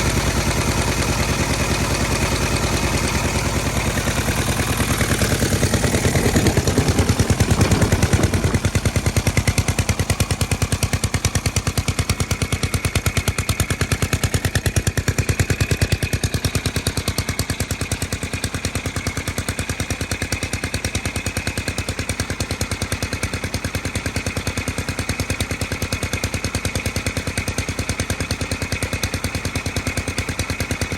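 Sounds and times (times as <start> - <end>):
pump engine chugging: 0.0 - 30.9.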